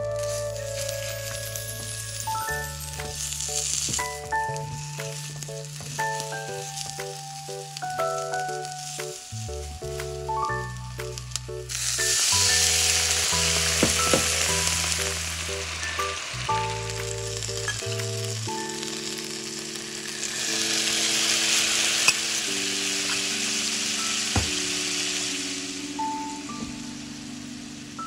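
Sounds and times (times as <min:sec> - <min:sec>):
frying pan sizzling: 0:00.0 - 0:28.0
sauce bubbling: 0:02.3 - 0:26.2.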